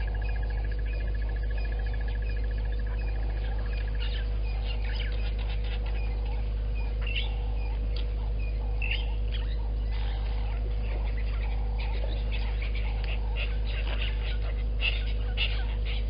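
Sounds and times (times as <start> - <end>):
bird trill: 0.0 - 16.0
birds chirping: 0.0 - 16.0
faint steady tone: 0.0 - 16.0
steady low hum: 0.0 - 16.0.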